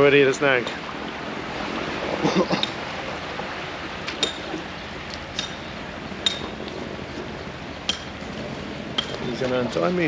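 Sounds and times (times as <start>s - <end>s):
sea water washing: 0.0s - 10.0s
wind: 0.0s - 10.0s.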